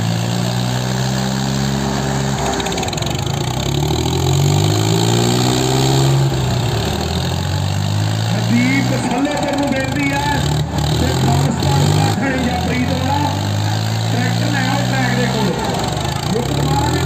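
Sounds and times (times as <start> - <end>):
tractor diesel engines labouring: 0.0 - 17.0.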